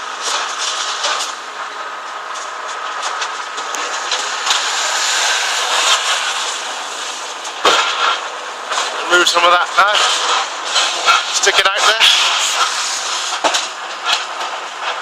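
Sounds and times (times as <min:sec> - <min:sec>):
faint steady whine: 0:00.0 - 0:15.0
tyres hissing on wet road: 0:00.0 - 0:15.0.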